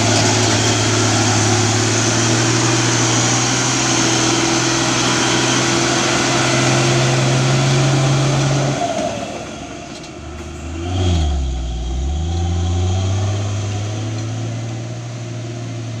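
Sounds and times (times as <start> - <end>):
diesel truck engine pulling away: 0.0 - 16.0.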